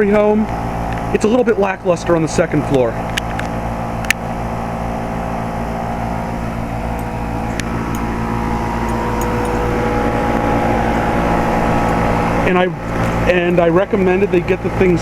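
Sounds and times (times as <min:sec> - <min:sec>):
compressor hum: 0:00.0 - 0:15.0
fan whoosh: 0:00.0 - 0:15.0.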